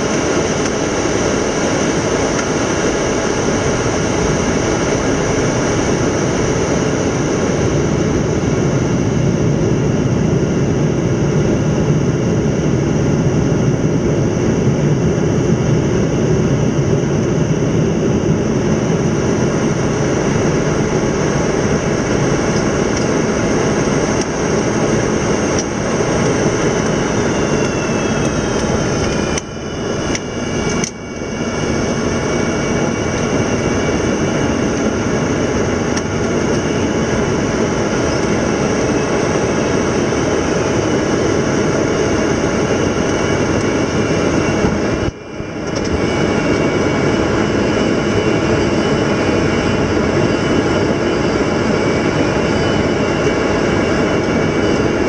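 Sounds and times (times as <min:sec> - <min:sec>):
aircraft engine rumble: 0:00.0 - 0:55.0
high whine falling in pitch: 0:00.0 - 0:55.0.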